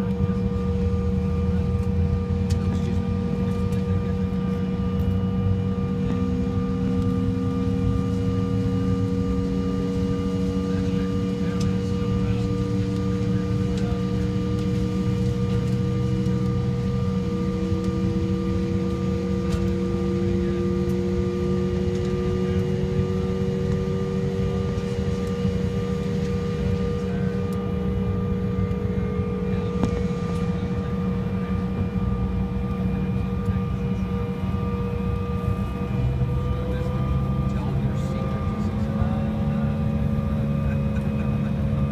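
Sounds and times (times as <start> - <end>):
airplane cabin hum: 0.0 - 41.9.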